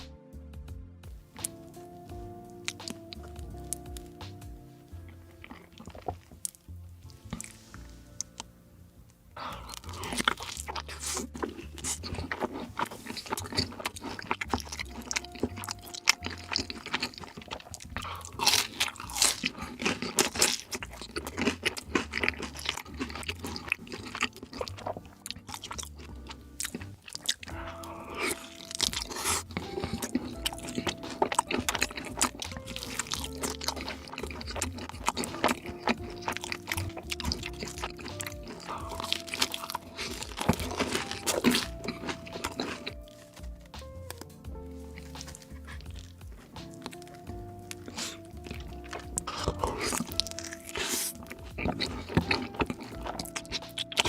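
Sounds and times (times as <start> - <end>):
background music: 0.0 - 54.0
crunching bites and chewing: 1.4 - 8.5, 9.4 - 54.0.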